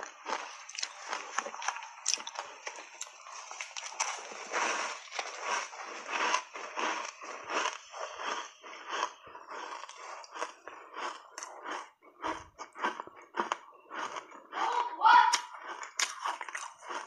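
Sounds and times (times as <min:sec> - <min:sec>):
ice crunching between teeth: 0:00.0 - 0:17.0.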